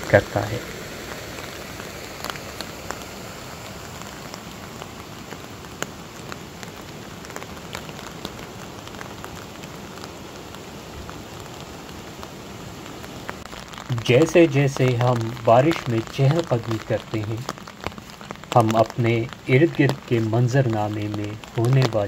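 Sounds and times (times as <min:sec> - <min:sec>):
rain hissing on grass and leaves: 0:00.0 - 0:22.0
raindrops ticking: 0:00.0 - 0:22.0.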